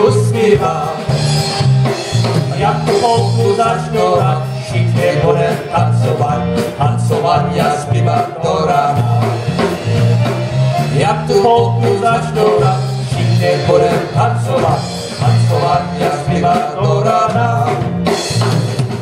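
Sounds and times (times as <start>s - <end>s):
polka band playing: 0.0s - 19.0s.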